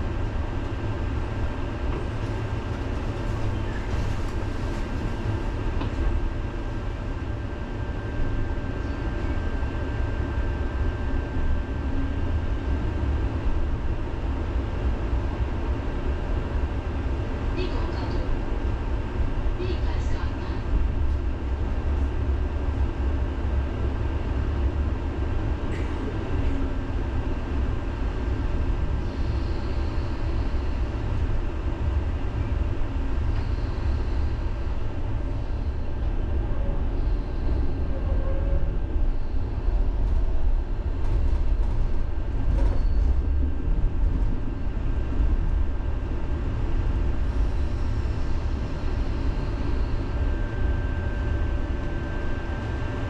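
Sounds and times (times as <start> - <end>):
tram rumbling on rails: 0.0 - 53.0.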